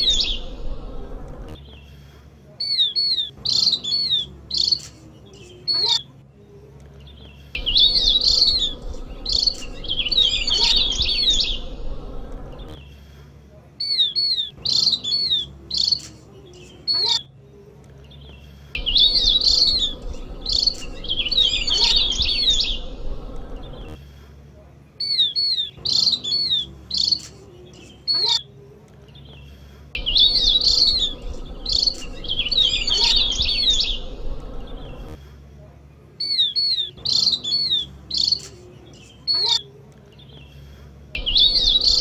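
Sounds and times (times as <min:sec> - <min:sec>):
bird chirping and twittering: 0:00.0 - 0:02.0, 0:02.6 - 0:13.0, 0:13.8 - 0:17.3, 0:18.0 - 0:24.0, 0:25.0 - 0:28.5, 0:29.1 - 0:35.2, 0:36.2 - 0:40.6, 0:41.2 - 0:42.0.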